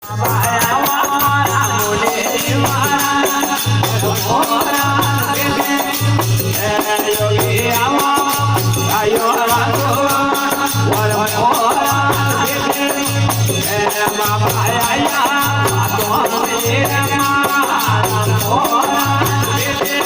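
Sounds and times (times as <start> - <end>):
shaker-like percussion rattle: 0.0 - 20.0.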